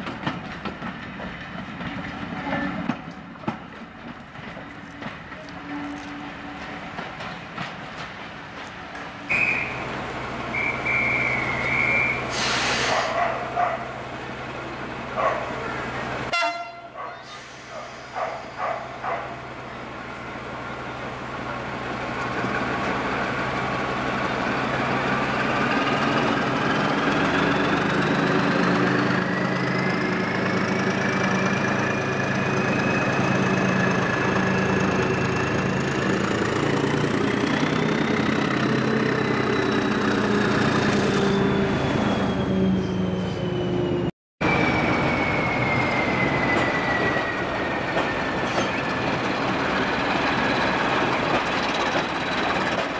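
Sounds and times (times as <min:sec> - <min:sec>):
diesel locomotive engine: 0:00.0 - 0:52.9.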